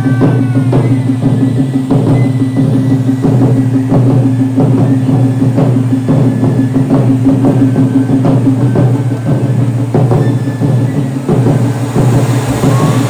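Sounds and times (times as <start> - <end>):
firework fountain roaring: 0.0 - 13.0
taiko drums struck in rhythm: 0.0 - 13.0.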